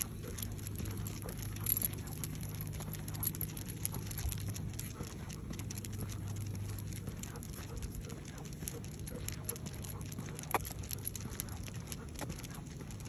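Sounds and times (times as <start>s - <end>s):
dog claws tapping pavement: 0.0s - 13.0s
footsteps on concrete: 0.0s - 13.0s
low hum: 0.0s - 13.0s.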